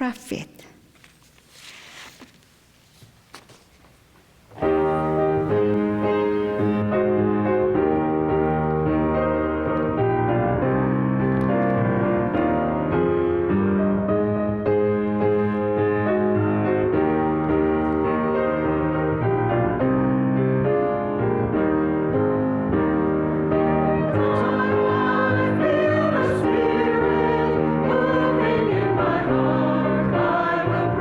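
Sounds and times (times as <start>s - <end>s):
piano chords: 4.5s - 31.0s.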